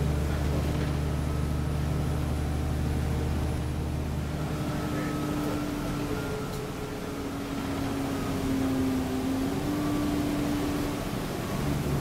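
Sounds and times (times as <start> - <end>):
bus engine and road drone: 0.0 - 12.0
wavering whine: 1.0 - 11.8.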